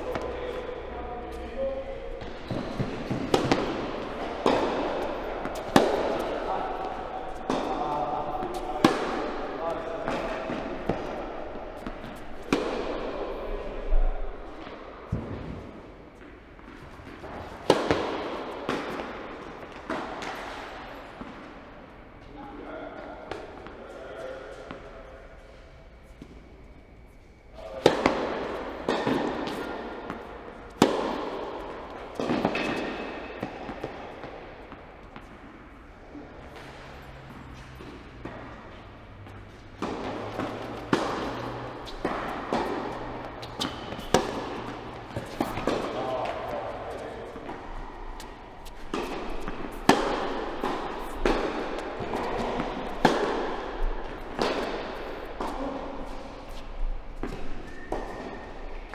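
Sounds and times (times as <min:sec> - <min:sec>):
racket striking tennis ball: 0:00.0 - 0:00.9, 0:01.6 - 0:13.8, 0:16.6 - 0:21.5, 0:27.6 - 0:35.6, 0:36.5 - 0:58.9
tennis ball bouncing: 0:00.0 - 0:00.9, 0:01.6 - 0:13.7, 0:14.5 - 0:21.5, 0:27.8 - 0:35.7, 0:36.5 - 0:58.9.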